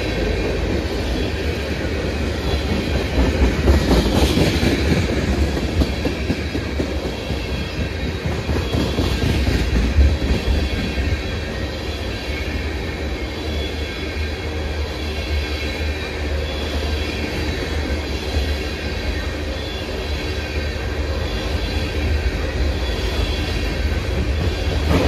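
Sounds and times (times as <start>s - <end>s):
train wheels clacking over rails: 0.0s - 14.4s, 15.0s - 25.0s
train wheels squealing: 0.0s - 25.0s.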